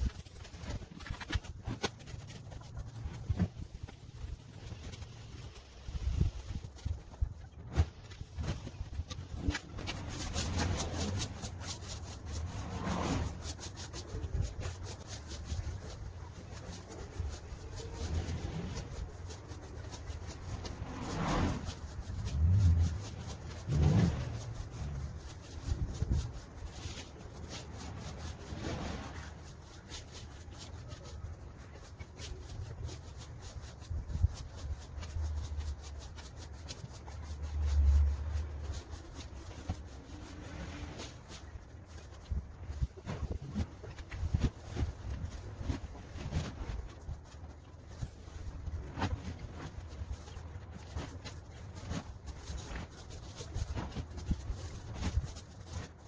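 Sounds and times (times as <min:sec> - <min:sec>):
rake scraping dry leaves: 0:00.0 - 0:56.0.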